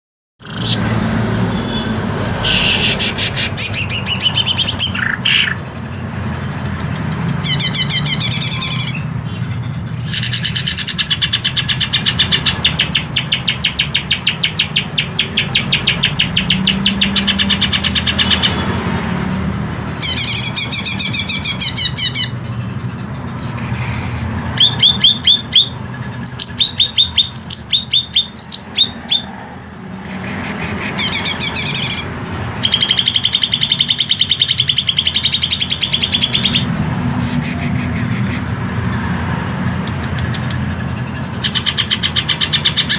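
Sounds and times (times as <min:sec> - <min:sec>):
bird singing trills: 0:01.6 - 0:18.7, 0:19.6 - 0:42.9.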